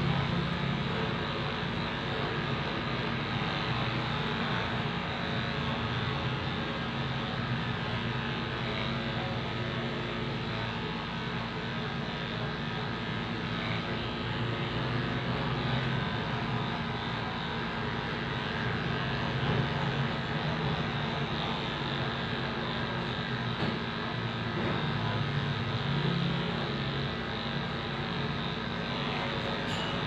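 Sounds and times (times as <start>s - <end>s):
electric clippers buzzing: 0.0s - 30.0s.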